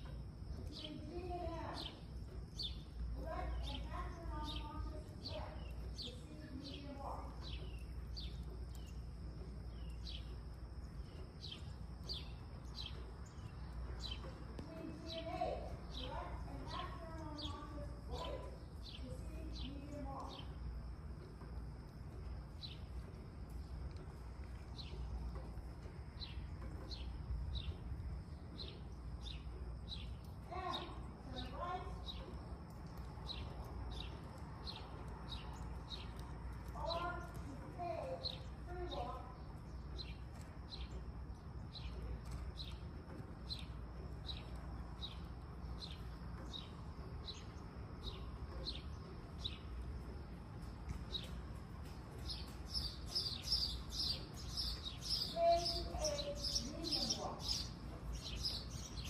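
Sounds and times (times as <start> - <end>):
bird chirping: 0.0 - 20.6, 22.1 - 59.0.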